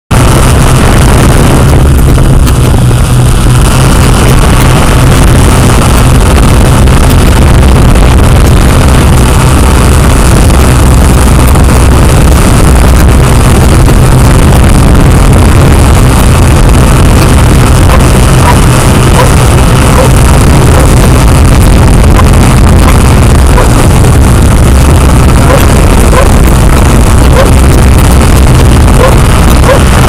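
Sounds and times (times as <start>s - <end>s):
drone motors buzzing: 0.1s - 30.0s.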